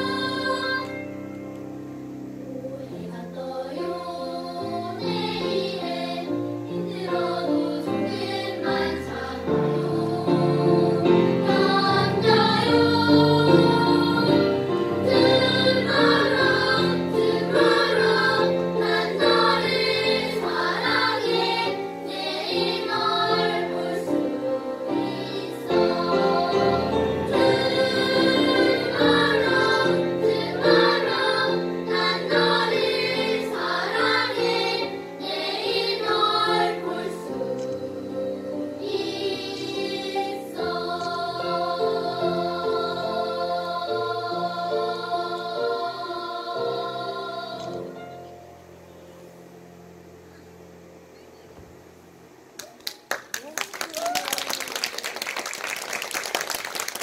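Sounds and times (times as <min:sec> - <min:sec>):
children's choir singing: 0:00.0 - 0:01.3, 0:02.3 - 0:48.3
grand piano: 0:00.0 - 0:52.8.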